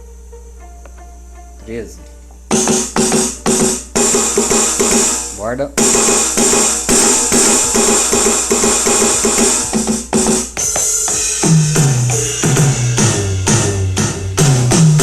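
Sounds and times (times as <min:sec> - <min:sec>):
electronic drum hits dropping in pitch: 0:02.5 - 0:15.0
electronic drum rim hits: 0:02.5 - 0:15.0.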